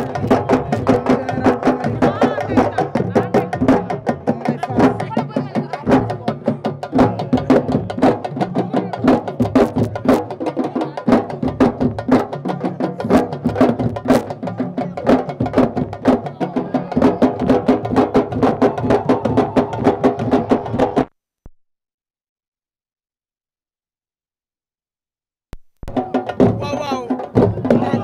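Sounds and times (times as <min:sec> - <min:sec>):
fast hand drumming: 0:00.0 - 0:21.1, 0:25.8 - 0:28.0.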